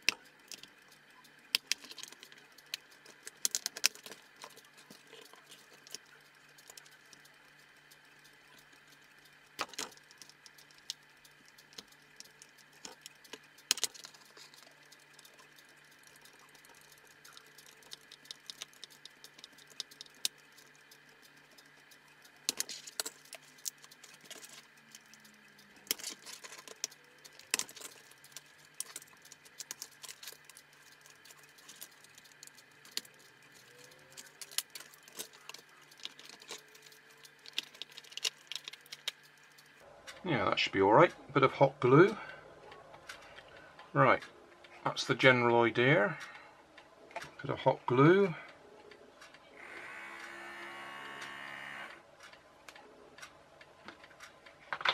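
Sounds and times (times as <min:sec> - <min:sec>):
faint steady hum: 0:00.0 - 0:54.9.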